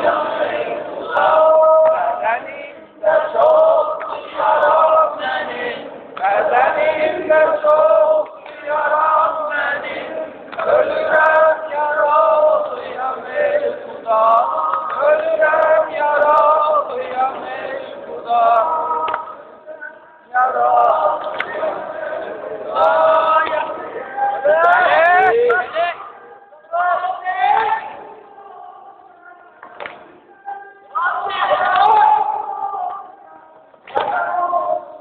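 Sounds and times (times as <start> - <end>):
male voices chanting a lament: 0.0 - 35.0.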